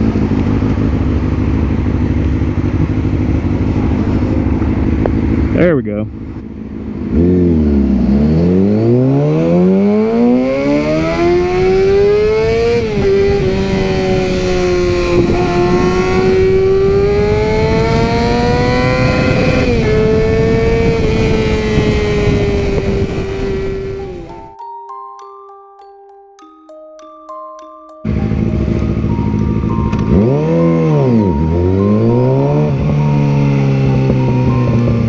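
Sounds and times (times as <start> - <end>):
motorcycle engine accelerating: 0.0 - 24.6, 28.0 - 35.0.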